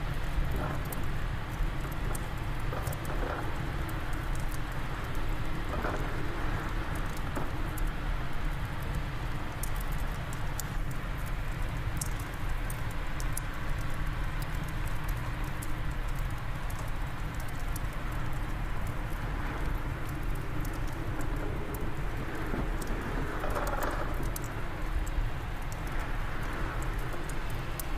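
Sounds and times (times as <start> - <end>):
fire crackling and popping: 0.0 - 27.9.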